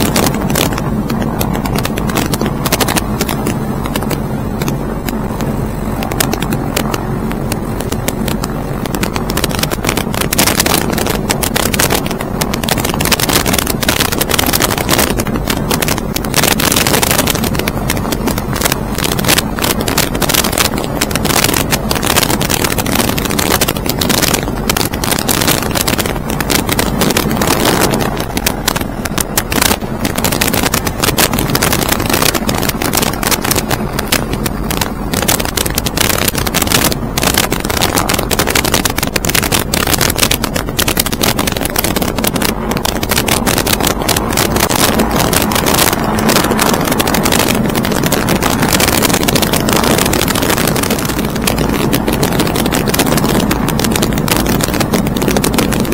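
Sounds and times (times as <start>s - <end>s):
aircraft engine running: 0.0s - 55.9s
wind buffeting microphone: 0.0s - 55.9s.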